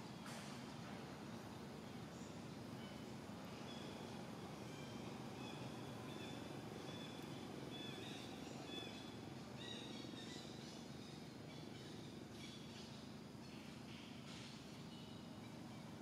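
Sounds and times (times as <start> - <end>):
faint outdoor hum: 0.0 - 16.0.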